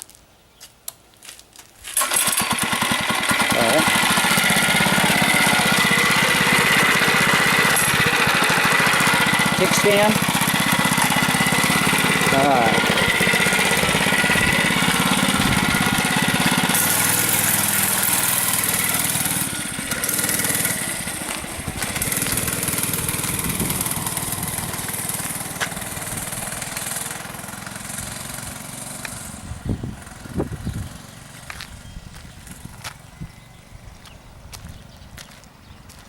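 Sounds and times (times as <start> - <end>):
mini bike engine running: 1.9 - 34.1.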